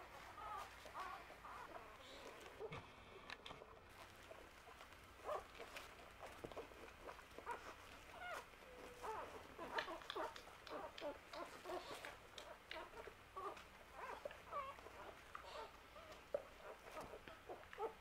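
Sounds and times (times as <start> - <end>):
puppies squeaking and whimpering: 0.1 - 2.7, 4.2 - 18.0.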